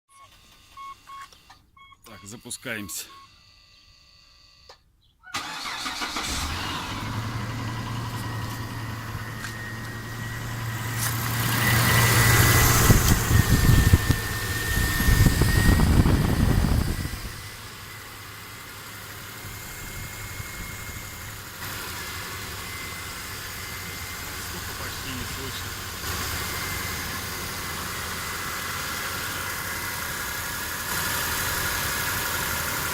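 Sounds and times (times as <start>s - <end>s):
car engine idling: 5.4s - 32.9s.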